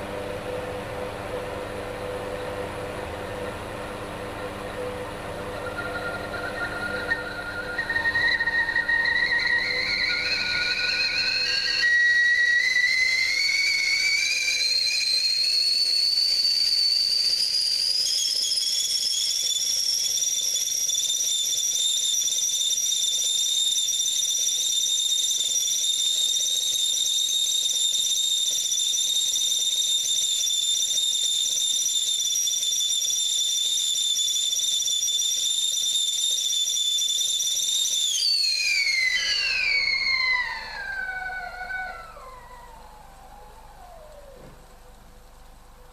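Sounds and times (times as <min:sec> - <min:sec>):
kettle whistling: 0:04.1 - 0:45.1.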